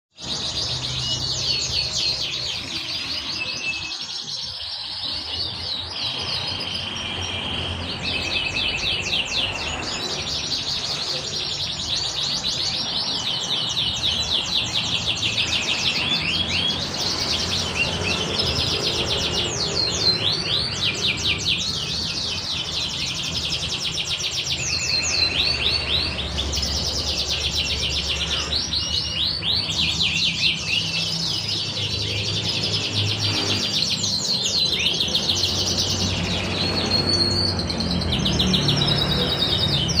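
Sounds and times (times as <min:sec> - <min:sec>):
canary singing trills: 0:00.1 - 0:40.0.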